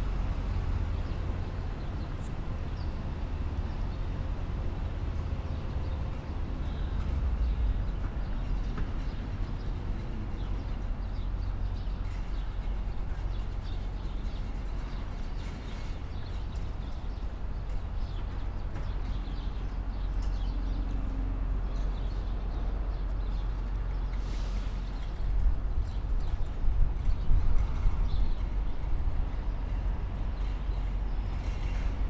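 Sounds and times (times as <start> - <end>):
city traffic rumble: 0.0 - 32.0.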